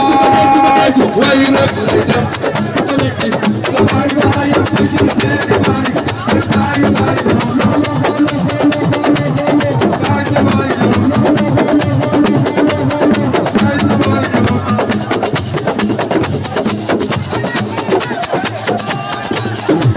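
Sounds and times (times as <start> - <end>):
fast percussion drumming: 0.0 - 19.9.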